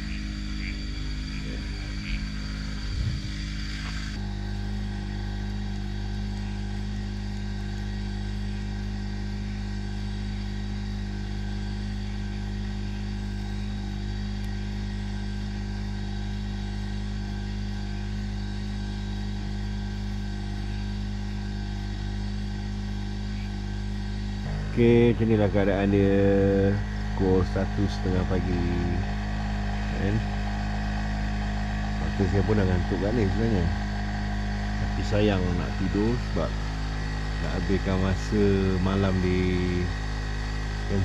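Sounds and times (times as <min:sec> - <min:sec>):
generator engine drone: 0:00.0 - 0:41.0.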